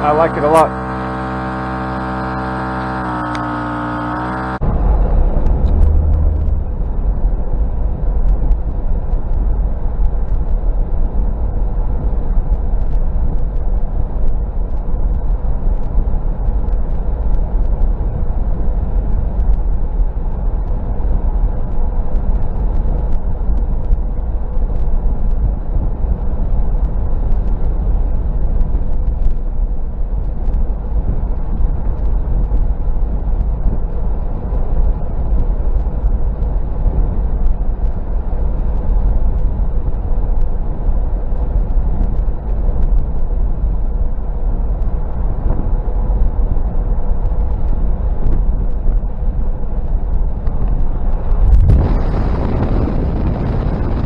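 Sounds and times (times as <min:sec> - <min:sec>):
tyres and drivetrain rumbling: 0:00.0 - 0:54.0.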